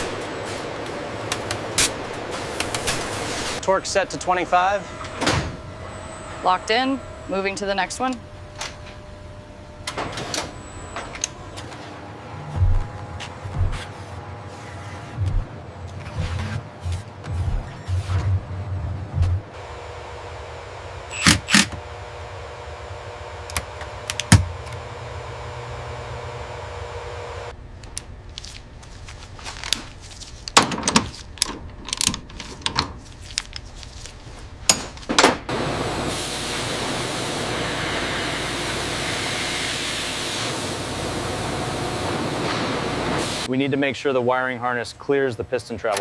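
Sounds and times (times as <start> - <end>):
steady machine hum: 0.0 - 45.8.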